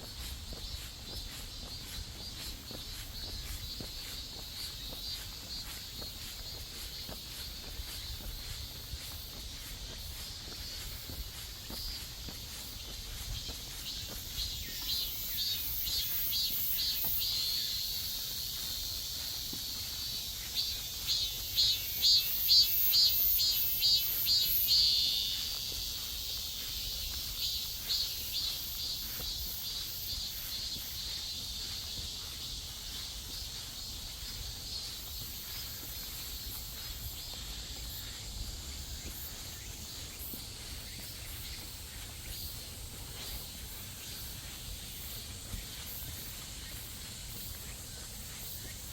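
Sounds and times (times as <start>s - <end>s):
cicadas calling in pulses: 0.0s - 48.9s.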